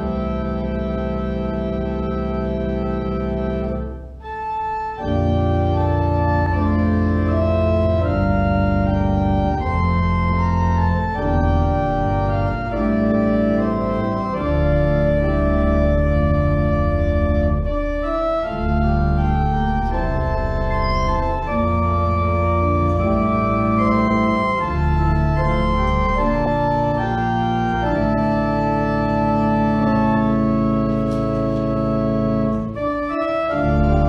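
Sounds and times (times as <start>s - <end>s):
organ music: 0.0s - 34.0s.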